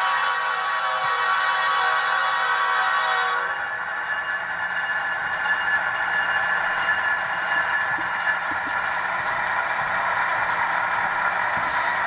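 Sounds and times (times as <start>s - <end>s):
model train diesel engine sound: 0.0s - 12.0s.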